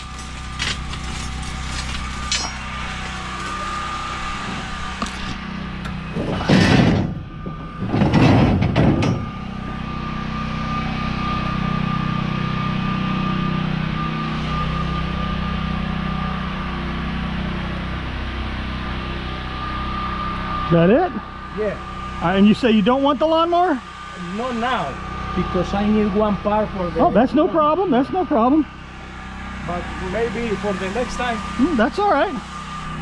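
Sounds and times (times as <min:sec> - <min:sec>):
faint constant whine: 0:00.0 - 0:33.0
vehicle engine running: 0:00.0 - 0:33.0.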